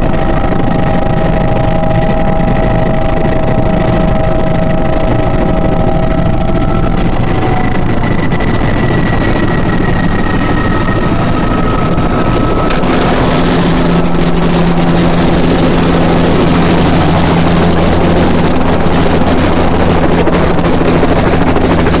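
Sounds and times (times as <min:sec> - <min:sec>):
helicopter engine and rotor: 0:00.0 - 0:22.0.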